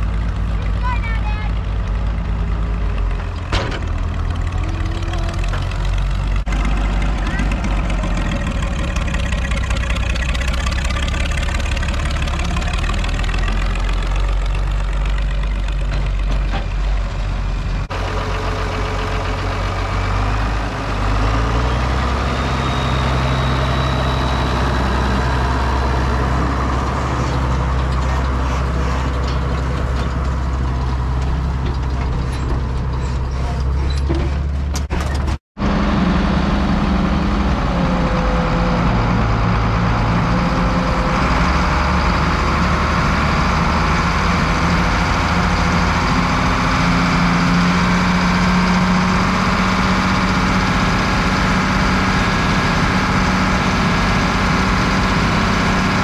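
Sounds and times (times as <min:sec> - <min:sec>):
tractor engines running: 0:00.0 - 0:56.0.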